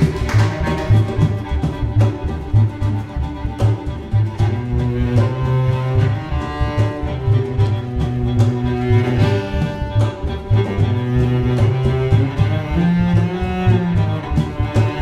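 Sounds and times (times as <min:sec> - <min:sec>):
bowed violin: 0:00.0 - 0:15.0
cello: 0:00.0 - 0:15.0
double bass low notes: 0:00.0 - 0:15.0.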